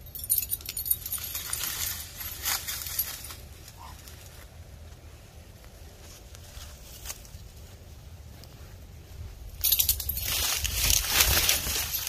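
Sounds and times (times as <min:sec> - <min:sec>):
low steady rumble: 0:00.0 - 0:12.0
leaves rustling: 0:00.1 - 0:12.0.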